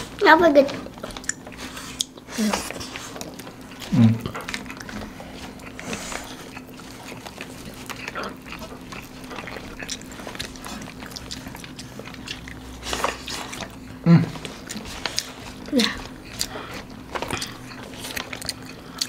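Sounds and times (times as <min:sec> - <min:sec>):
chewing and wet mouth noises: 0:00.0 - 0:19.0
wrappers clicking and crinkling: 0:00.1 - 0:19.0.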